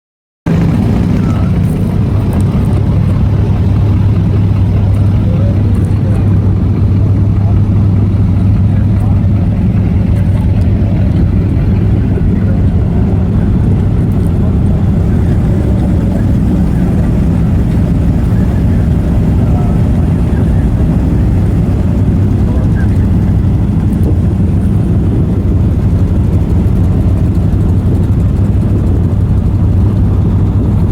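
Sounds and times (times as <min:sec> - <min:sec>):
off-road vehicle engine droning: 0:00.5 - 0:30.9.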